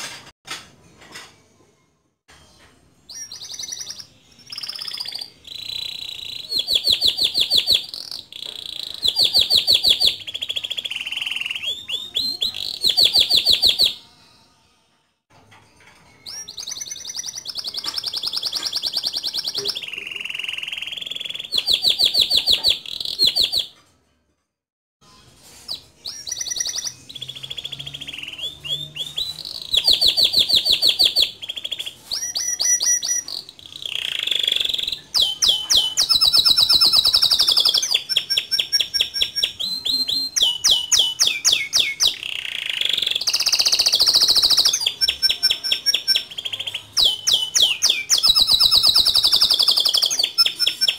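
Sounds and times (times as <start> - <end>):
canary singing trills: 3.1 - 14.1, 16.2 - 23.7, 25.7 - 50.9.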